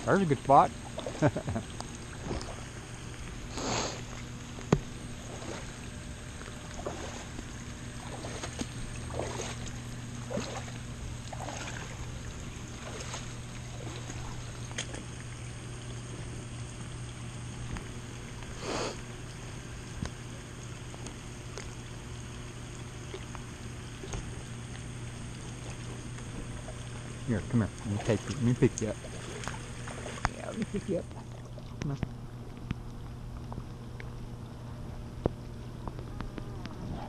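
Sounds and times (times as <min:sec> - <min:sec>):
feet wading through water: 0:00.0 - 0:37.0
steady low hum: 0:00.0 - 0:37.0.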